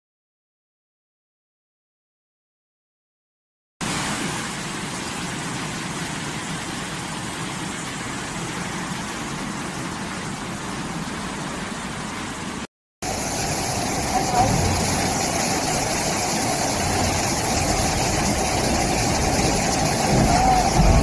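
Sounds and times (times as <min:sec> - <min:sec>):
floodwater rushing: 0:03.8 - 0:21.0.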